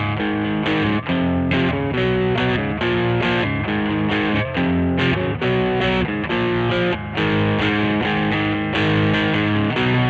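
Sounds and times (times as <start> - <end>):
distorted electric guitar chords: 0.0 - 10.0.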